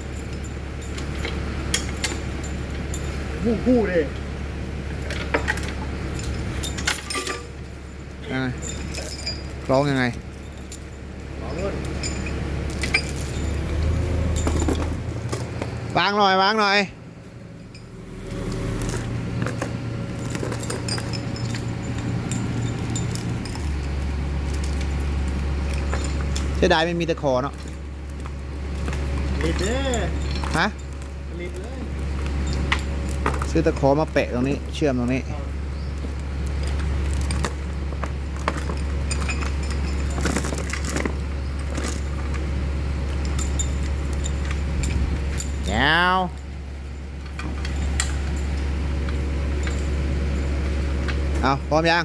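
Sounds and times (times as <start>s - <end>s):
chain clinking against metal: 0.0s - 3.4s, 5.1s - 16.5s, 17.4s - 51.7s
steady low hum: 0.0s - 52.0s.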